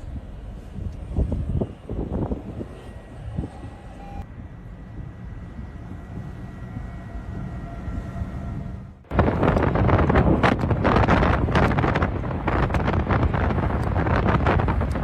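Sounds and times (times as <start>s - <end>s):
tornado wind low rumble: 0.0s - 15.0s.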